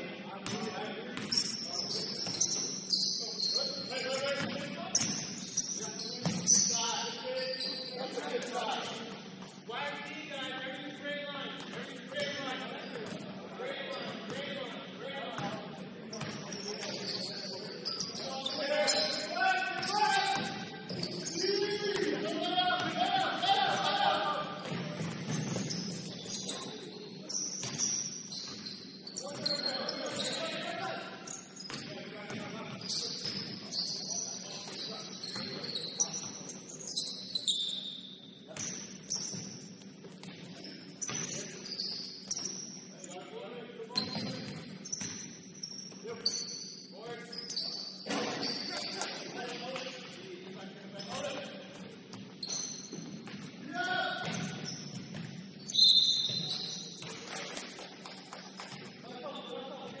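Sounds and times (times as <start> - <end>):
sneakers squeaking on a gym floor: 0.4 - 60.0.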